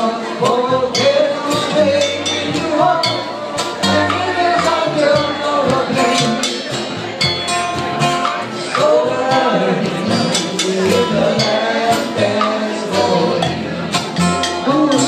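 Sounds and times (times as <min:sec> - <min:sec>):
people singing: 0:00.0 - 0:07.2, 0:08.3 - 0:15.0
low bass notes: 0:00.0 - 0:15.0
ukuleles strumming: 0:00.0 - 0:15.0.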